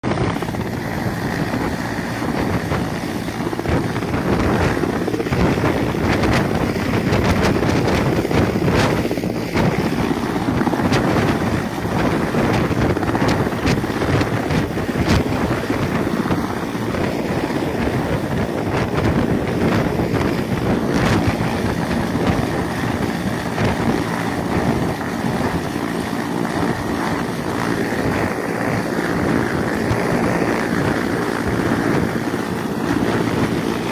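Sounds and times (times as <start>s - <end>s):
helicopter rotor and turbine: 0.0s - 33.9s
wind buffeting microphone: 0.0s - 33.9s.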